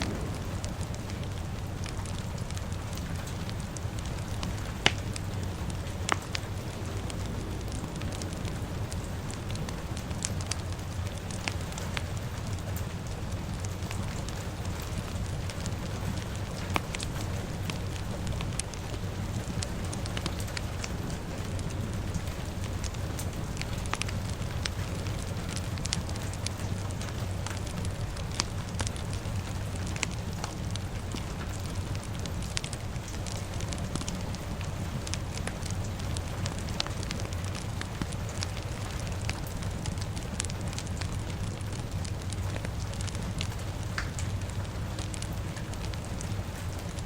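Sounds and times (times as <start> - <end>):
steady hiss and low rumble: 0.0 - 47.0
wood fire crackling: 0.0 - 47.0.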